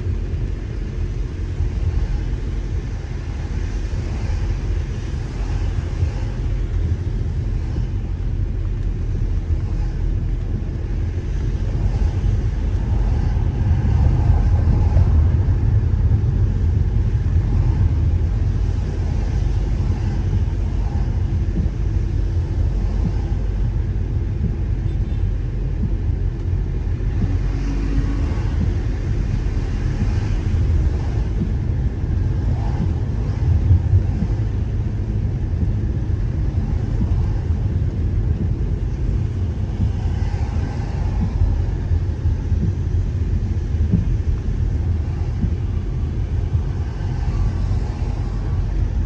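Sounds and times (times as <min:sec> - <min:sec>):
car driving on wet road: 0:00.0 - 0:49.0.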